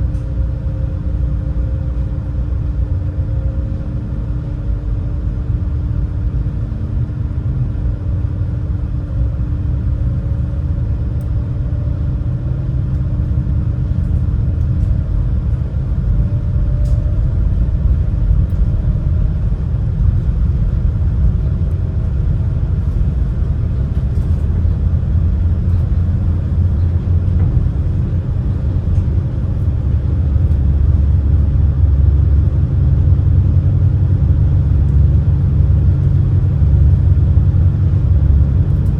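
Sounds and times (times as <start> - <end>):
boat engines droning: 0.0 - 38.9.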